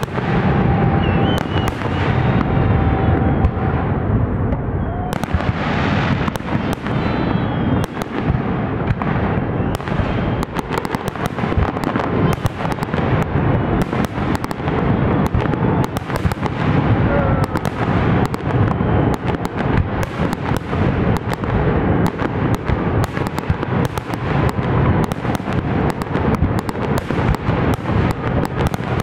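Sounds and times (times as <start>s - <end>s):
fireworks cracks and bangs: 0.0s - 29.0s
rumble of fireworks booms: 0.0s - 29.0s.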